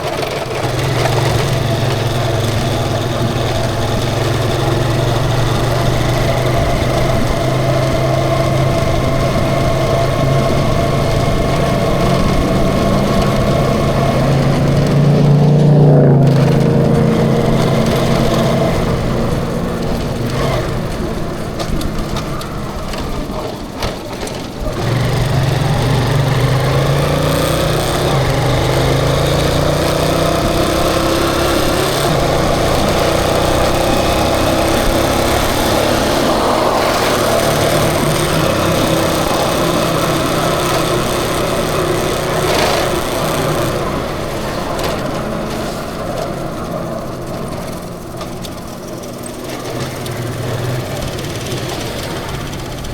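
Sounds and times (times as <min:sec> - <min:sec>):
small engine buzzing: 0:00.0 - 0:52.9
wind and road rush: 0:00.0 - 0:52.9.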